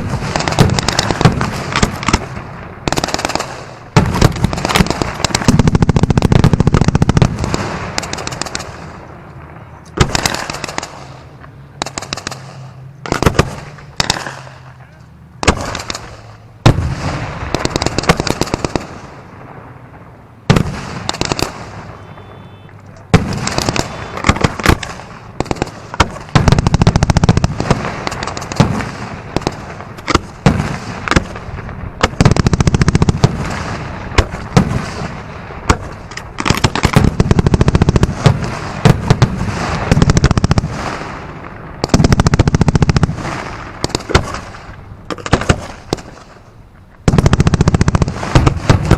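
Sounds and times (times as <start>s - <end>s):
fireworks booms: 0.0s - 48.9s
fireworks cracks and bangs: 0.0s - 48.9s.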